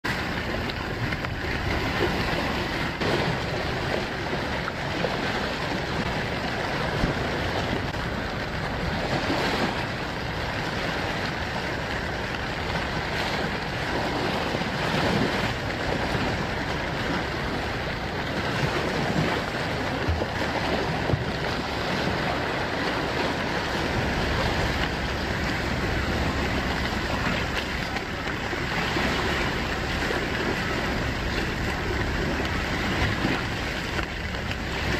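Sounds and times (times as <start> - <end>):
sea waves: 0.0 - 34.9
wind: 0.0 - 34.9.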